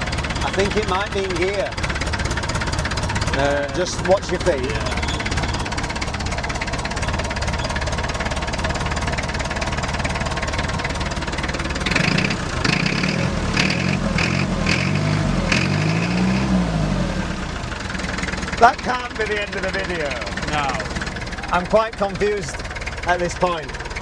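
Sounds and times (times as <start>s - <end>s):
diesel engine running: 0.0s - 24.0s
rhythmic engine rattle: 0.0s - 24.0s.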